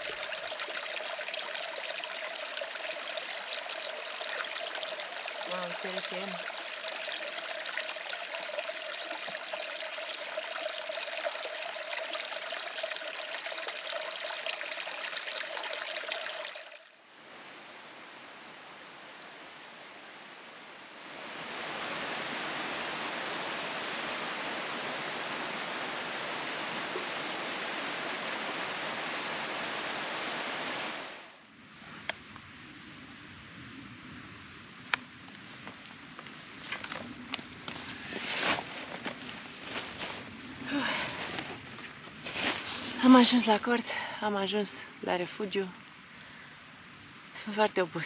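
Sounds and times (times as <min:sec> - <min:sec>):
mountain stream running: 0:00.0 - 0:48.0.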